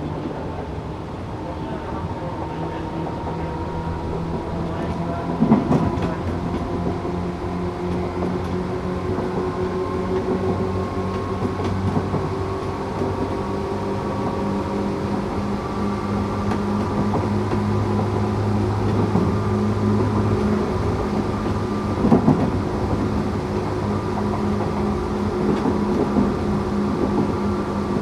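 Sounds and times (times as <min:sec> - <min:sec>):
wheels rumbling on rail: 0:00.0 - 0:28.0.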